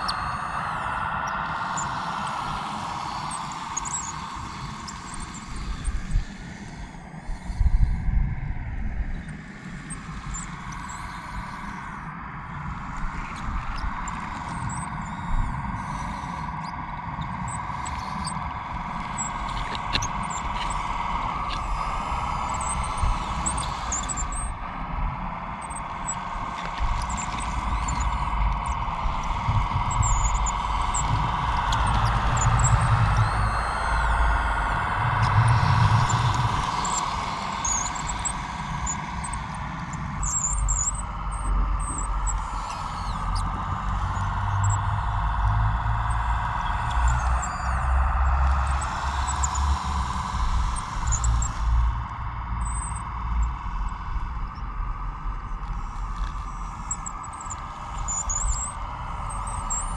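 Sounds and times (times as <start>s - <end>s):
toy bulldozer motors whining: 0.0s - 7.8s, 12.8s - 24.6s, 25.6s - 53.6s, 55.5s - 59.9s.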